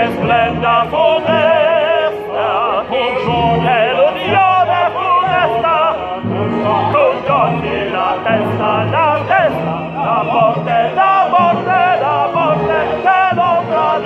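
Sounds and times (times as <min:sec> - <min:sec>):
operatic singing with vibrato: 0:00.0 - 0:14.0.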